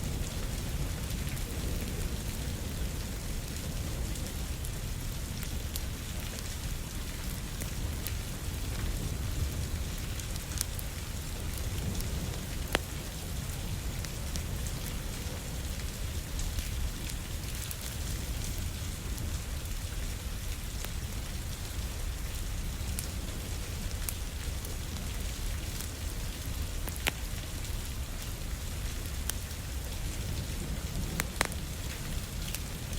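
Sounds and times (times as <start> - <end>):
rain pattering on windows: 0.0 - 32.9
wood fire crackling and popping: 4.6 - 32.9.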